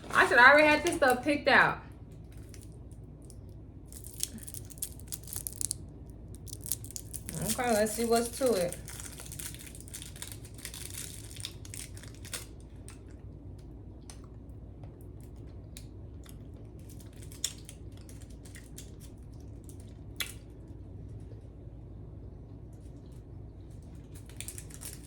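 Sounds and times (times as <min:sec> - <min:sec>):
low hum: 0:00.0 - 0:25.0
candy being chewed and crunched: 0:02.0 - 0:21.4, 0:22.7 - 0:25.0.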